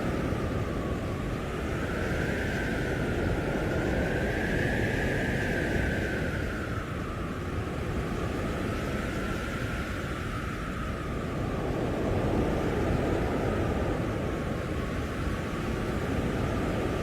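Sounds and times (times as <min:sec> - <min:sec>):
blizzard wind blowing hard: 0:00.0 - 0:17.0
howling wind whistle: 0:00.0 - 0:17.0.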